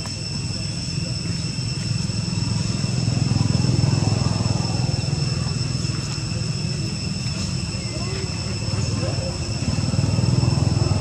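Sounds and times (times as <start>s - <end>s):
high-pitched whine: 0.0s - 11.0s
vehicle engine rumble: 0.0s - 11.0s.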